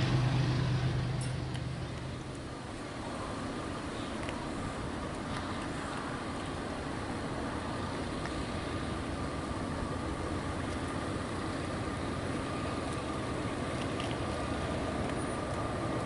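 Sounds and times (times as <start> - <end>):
distant freight train rumble: 0.0 - 16.0.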